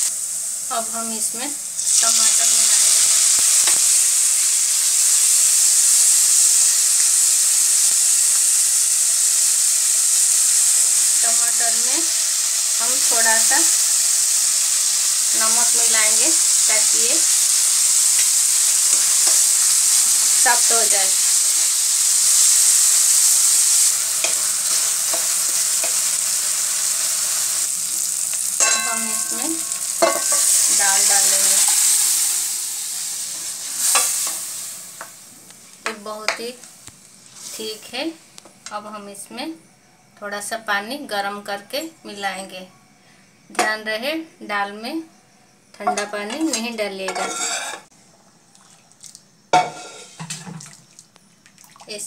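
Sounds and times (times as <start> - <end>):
tomato sizzling in hot oil: 0.0 - 38.1, 45.7 - 52.0.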